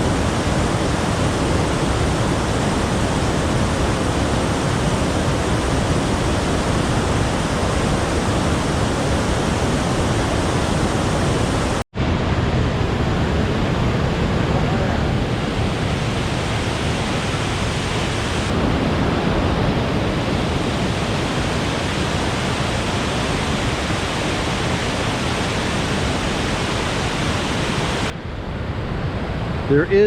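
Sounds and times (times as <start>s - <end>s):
waterfall roaring: 0.0s - 28.2s.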